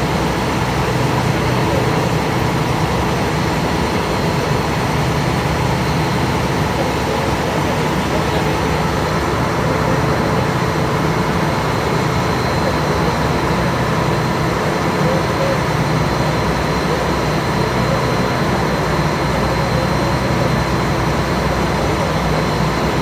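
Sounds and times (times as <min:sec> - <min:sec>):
ferry engine drone: 0:00.0 - 0:23.0.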